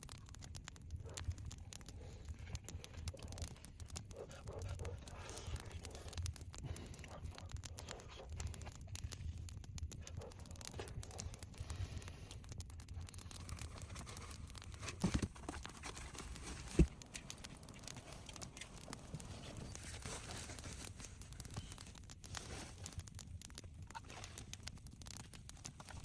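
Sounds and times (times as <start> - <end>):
rustling crinkling handling noise: 0.0 - 26.0.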